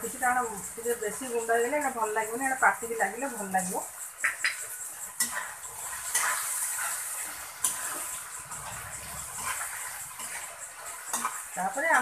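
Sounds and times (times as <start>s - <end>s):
frying sizzle: 0.0s - 12.0s
metal spatula scraping a pan: 0.2s - 12.0s.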